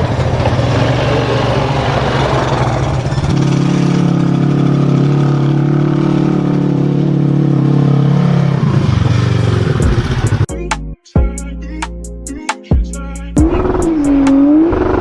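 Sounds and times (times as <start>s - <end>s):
vehicle engine revving: 0.0s - 10.5s, 13.4s - 15.0s.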